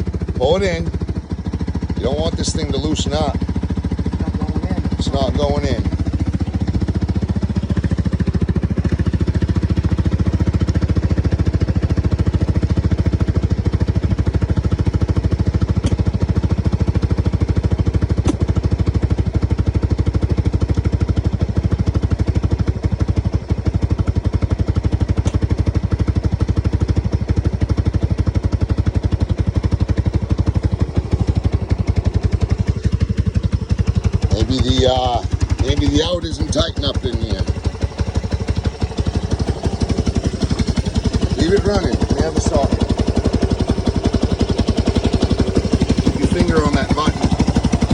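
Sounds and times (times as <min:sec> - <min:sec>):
atv engine idling: 0:00.0 - 0:47.9.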